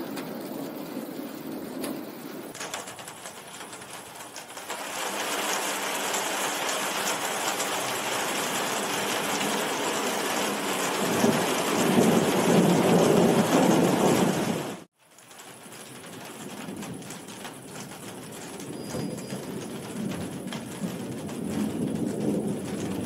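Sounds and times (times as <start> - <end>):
thunder rumbling: 0.0 - 14.9, 15.6 - 23.0
heavy rain falling: 0.0 - 23.0.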